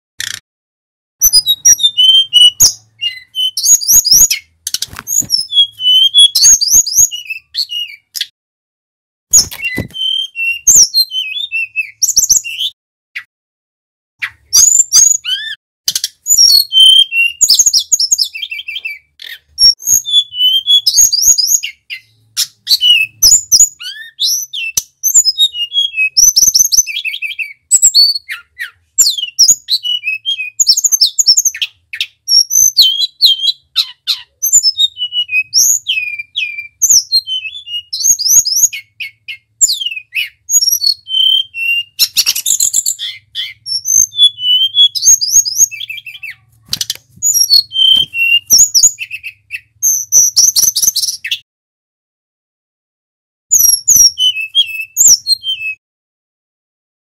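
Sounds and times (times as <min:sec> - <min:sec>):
bird singing whistled phrases: 0:01.2 - 0:04.5, 0:05.1 - 0:08.3, 0:09.3 - 0:13.3, 0:14.2 - 0:15.6, 0:16.2 - 0:51.4, 0:53.5 - 0:55.8.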